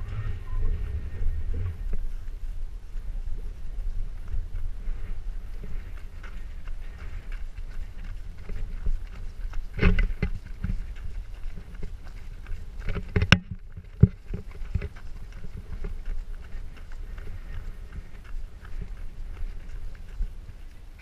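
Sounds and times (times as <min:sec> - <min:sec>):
footsteps jogging on dirt: 0:00.0 - 0:21.0
steady low rumble: 0:00.0 - 0:21.0.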